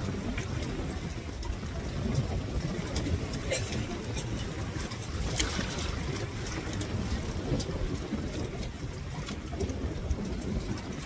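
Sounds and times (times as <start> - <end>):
water splashing and lapping: 0.0 - 11.0
wind buffeting microphone: 0.0 - 11.0.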